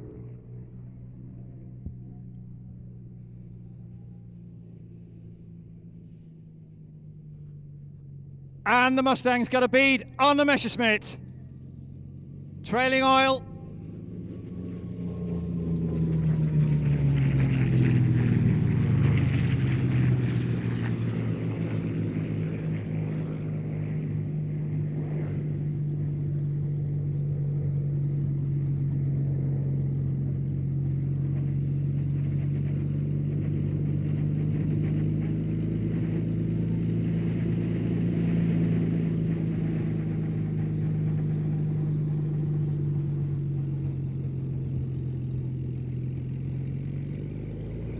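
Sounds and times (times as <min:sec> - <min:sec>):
aircraft passing low: 0:00.0 - 0:47.9
steady engine drone: 0:00.0 - 0:47.9.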